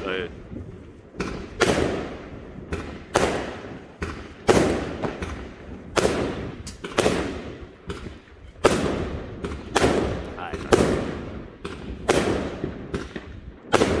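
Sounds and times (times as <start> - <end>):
fireworks bangs: 0.0 - 14.0
small fireworks pops: 0.5 - 14.0.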